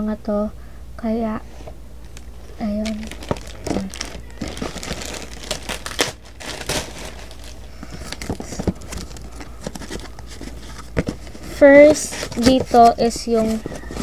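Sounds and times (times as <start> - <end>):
plastic packaging crinkling: 2.1 - 14.0.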